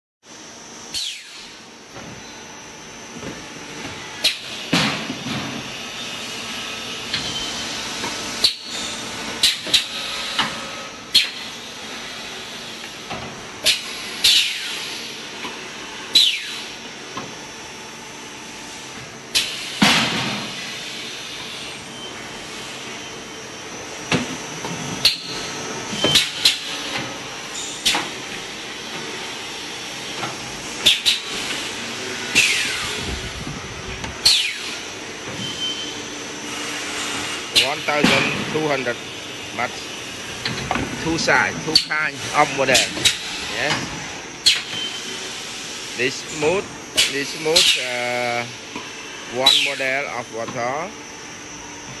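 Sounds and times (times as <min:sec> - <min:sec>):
machine hiss and hum: 0:00.3 - 0:52.0.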